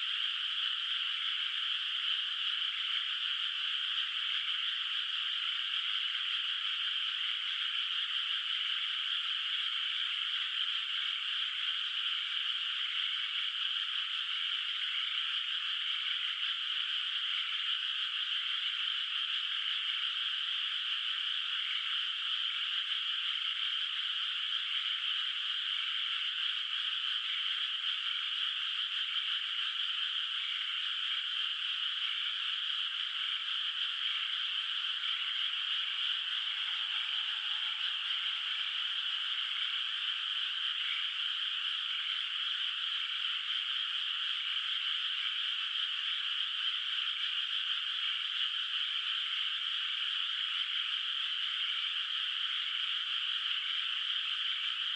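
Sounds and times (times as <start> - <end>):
chorus of frogs croaking: 0.0 - 54.9.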